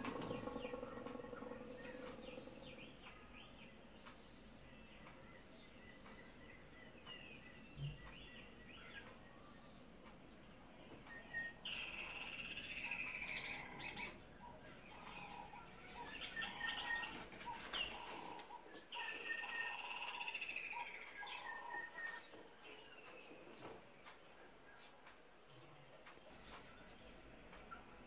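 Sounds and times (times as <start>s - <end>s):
songbird singing: 0.0s - 28.0s.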